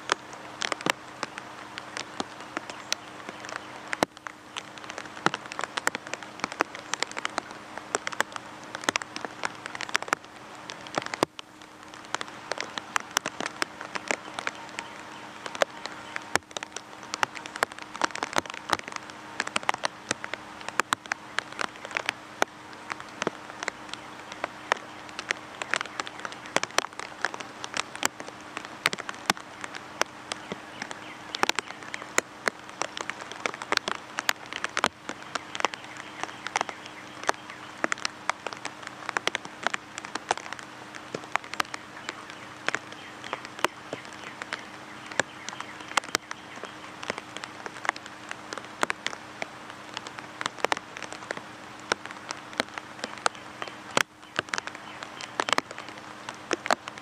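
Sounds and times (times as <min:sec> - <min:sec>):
close raindrop ticks: 0:00.0 - 0:57.0
rain hiss on foliage: 0:00.0 - 0:57.0.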